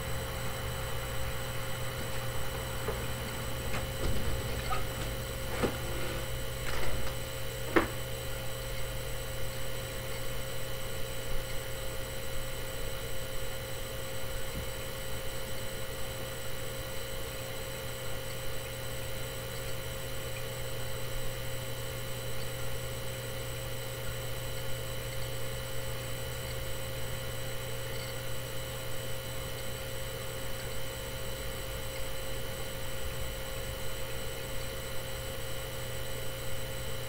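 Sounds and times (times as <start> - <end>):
electrical hum with hiss: 0.0 - 37.0
faint constant tones: 0.0 - 37.0.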